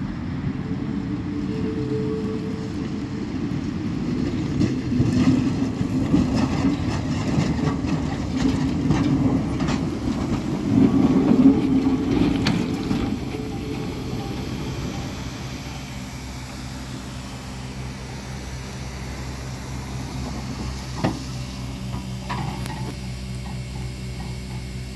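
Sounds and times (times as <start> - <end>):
tram wheels rumbling: 0.0 - 24.9
wheels clicking on rails: 1.0 - 24.9.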